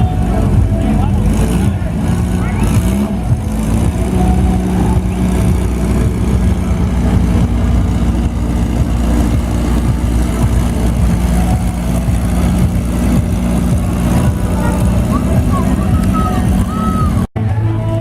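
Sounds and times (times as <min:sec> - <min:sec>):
vehicle engine idling: 0:00.0 - 0:17.3.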